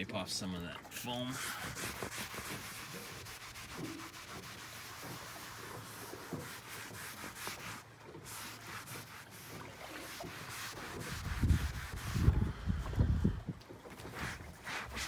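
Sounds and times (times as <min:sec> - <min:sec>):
rubbing on vinyl seat: 0:01.4 - 0:12.6, 0:14.0 - 0:15.0.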